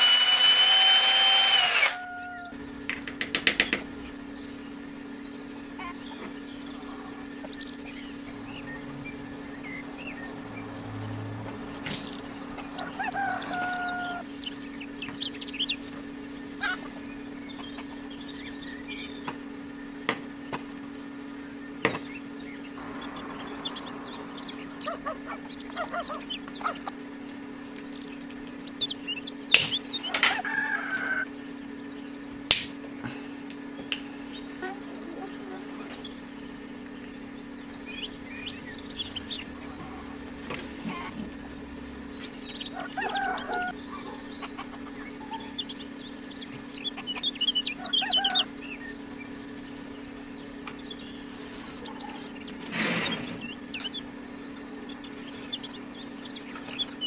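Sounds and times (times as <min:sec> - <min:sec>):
bird calling: 0:00.0 - 0:57.0
steady low hum: 0:00.0 - 0:57.0.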